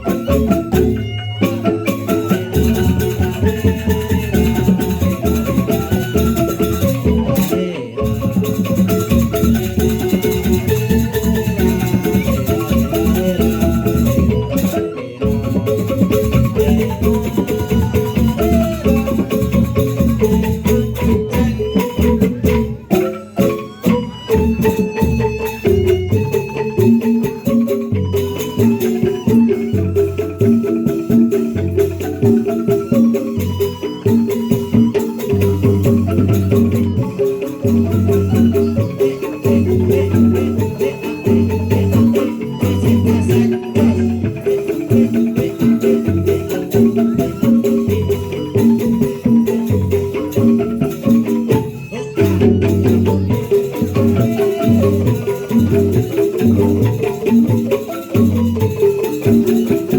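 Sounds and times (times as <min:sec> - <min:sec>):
rattles over dense beat: 0:00.0 - 0:59.9
tuned mallet percussion melodies: 0:00.0 - 0:59.9.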